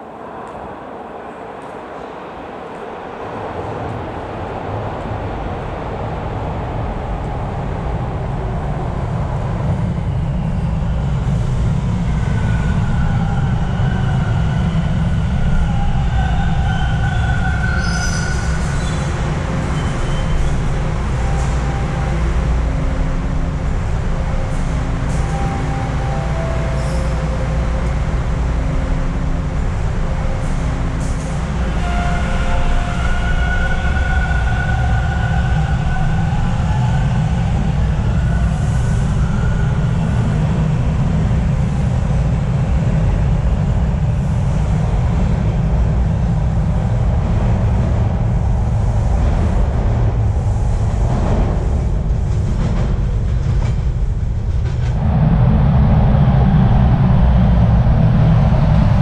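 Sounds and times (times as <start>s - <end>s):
rising train whine: 0.0s - 59.0s
subway train rumbling: 0.0s - 59.0s.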